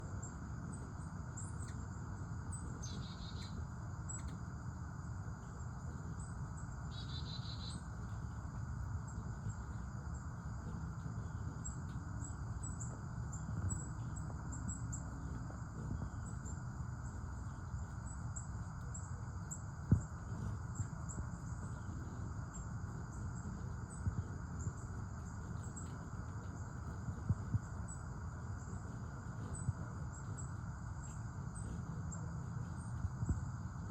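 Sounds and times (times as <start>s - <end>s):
insects chirping trill: 0.0s - 33.9s
low background rumble: 0.0s - 33.9s.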